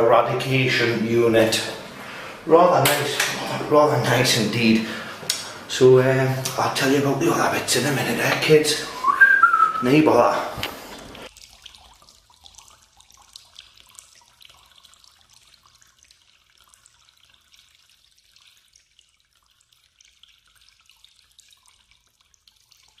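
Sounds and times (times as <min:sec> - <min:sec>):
water dripping and trickling: 0:00.0 - 0:23.0.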